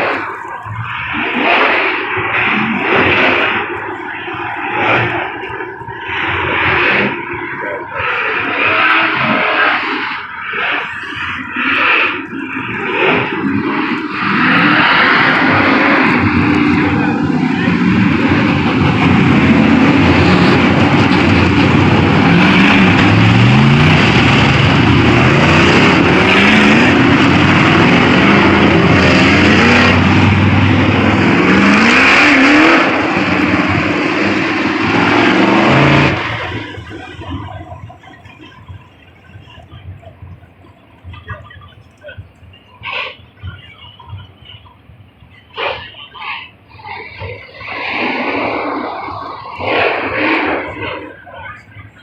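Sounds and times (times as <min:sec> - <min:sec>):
race car engines revving: 0:00.0 - 0:52.0.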